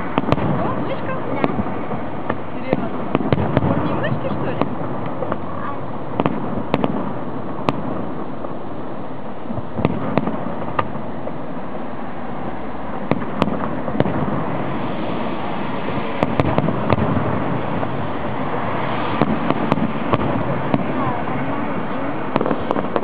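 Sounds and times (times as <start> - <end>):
distant fireworks bangs: 0.0 - 23.0
steady background hiss: 0.0 - 23.0.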